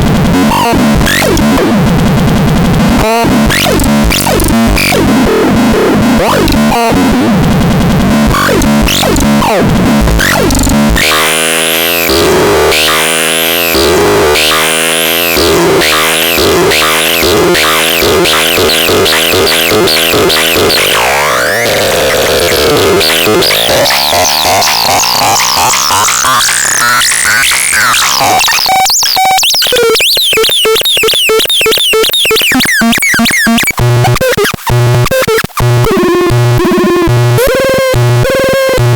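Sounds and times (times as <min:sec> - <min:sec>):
harsh synthesizer noise: 0:00.0 - 0:38.9.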